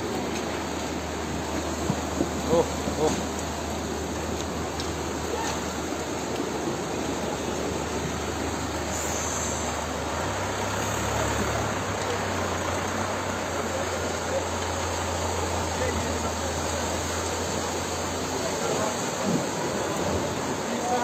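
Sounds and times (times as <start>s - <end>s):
floodwater rushing through street: 0.0s - 21.0s.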